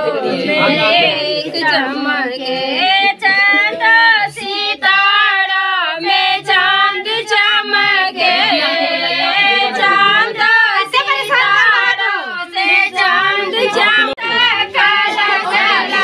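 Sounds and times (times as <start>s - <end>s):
women singing unaccompanied: 0.0s - 16.0s.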